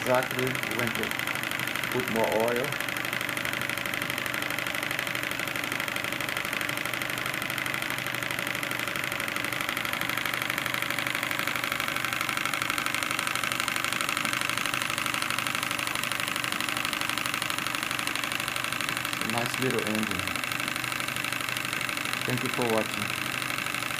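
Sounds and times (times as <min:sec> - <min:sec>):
model steam engine running: 0:00.0 - 0:23.9.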